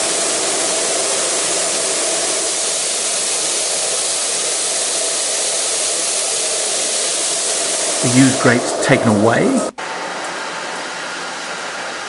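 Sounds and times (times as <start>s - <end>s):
water jet spraying: 0.0s - 12.0s.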